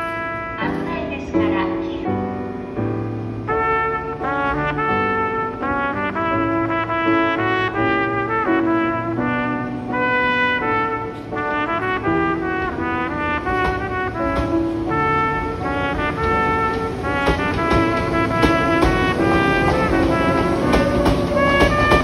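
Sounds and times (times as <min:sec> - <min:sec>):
trumpet ballad: 0:00.0 - 0:22.0.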